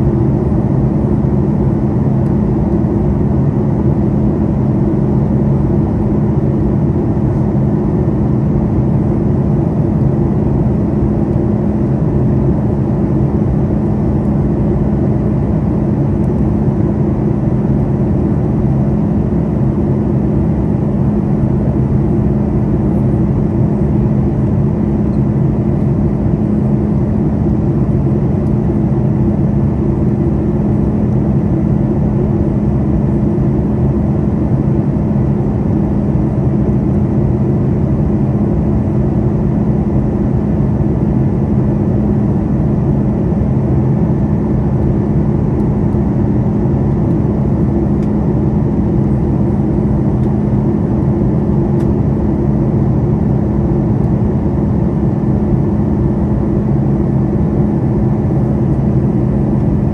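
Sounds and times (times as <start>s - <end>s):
jet engines droning in cabin: 0.0s - 59.9s.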